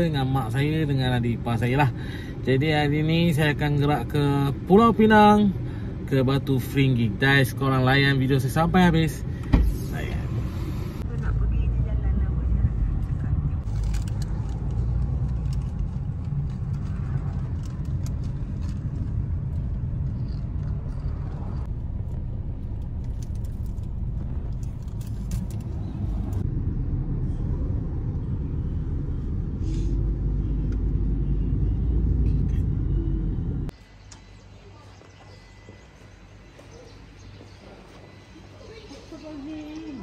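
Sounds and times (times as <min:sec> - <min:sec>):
road and engine rumble: 0:00.0 - 0:40.0.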